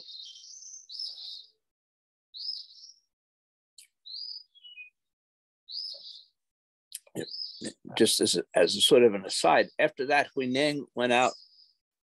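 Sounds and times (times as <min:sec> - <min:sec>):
songbird chirping: 0:00.0 - 0:01.7, 0:02.4 - 0:03.2, 0:03.8 - 0:11.8.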